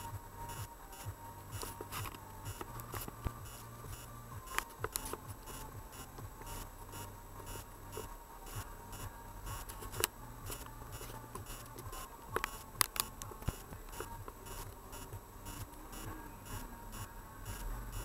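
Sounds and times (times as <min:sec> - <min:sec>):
car interior hum: 0:00.0 - 0:18.0
sharp clicks and ticks: 0:00.5 - 0:18.0.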